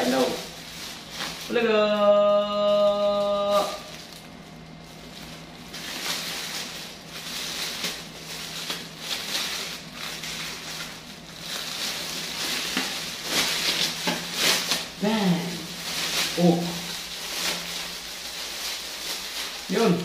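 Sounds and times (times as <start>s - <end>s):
plastic bag crinkling and tearing: 0.0s - 20.0s.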